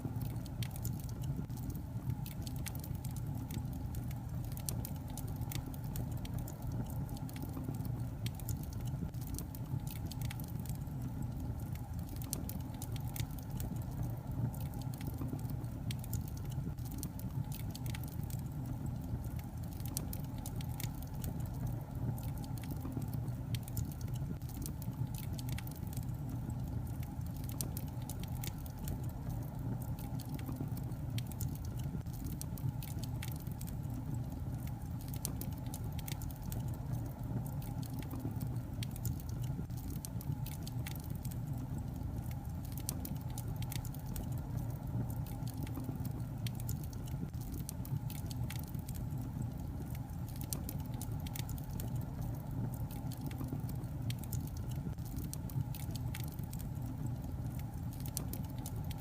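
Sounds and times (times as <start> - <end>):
low rumble of flames: 0.0 - 59.0
logs crackling and popping: 0.1 - 59.0.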